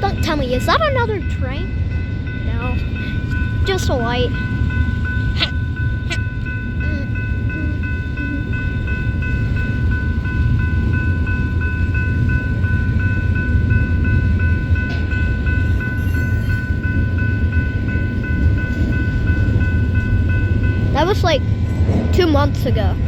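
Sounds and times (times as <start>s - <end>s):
high repeating ringing tone: 0.0s - 21.9s
freight train rumbling past: 0.0s - 23.0s.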